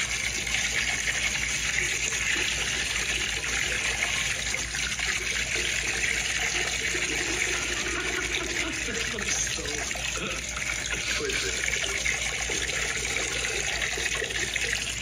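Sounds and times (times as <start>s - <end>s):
liquid pouring into liquid: 0.0s - 15.0s.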